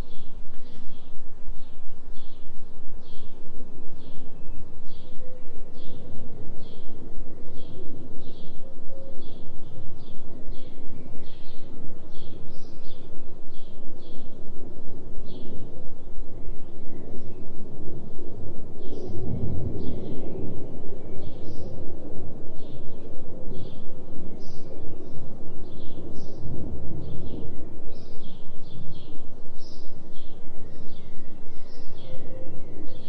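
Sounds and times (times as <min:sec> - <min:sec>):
pulsing low droning noise: 0:00.0 - 0:33.0.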